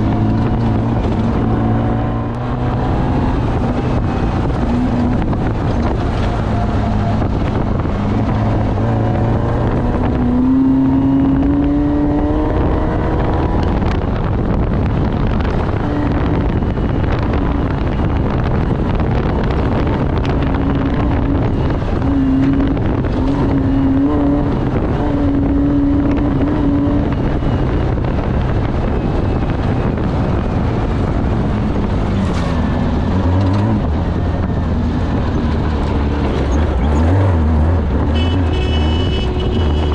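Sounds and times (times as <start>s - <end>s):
off-road vehicle engine revving: 0.0s - 39.9s
wind buffeting microphone: 0.0s - 39.9s.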